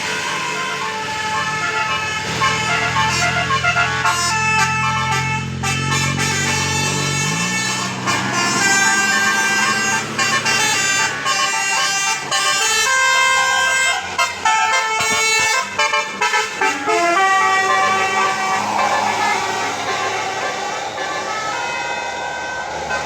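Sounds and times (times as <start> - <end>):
musical air horn tune: 0.1 - 23.0.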